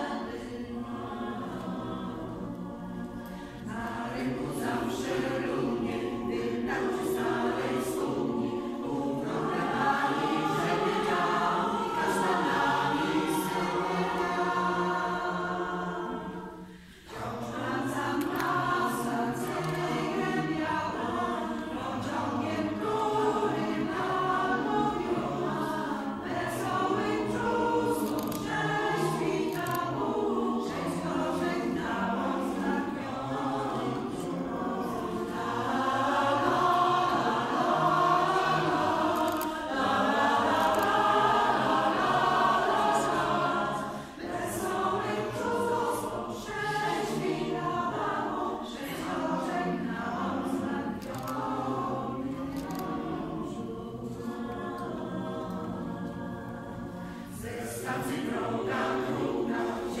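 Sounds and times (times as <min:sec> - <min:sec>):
mixed choir singing a cappella: 0:00.0 - 1:00.0.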